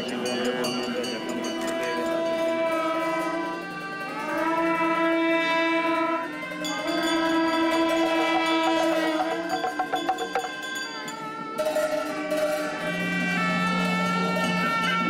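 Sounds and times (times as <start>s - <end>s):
wind instruments holding a chord: 1.4s - 15.0s.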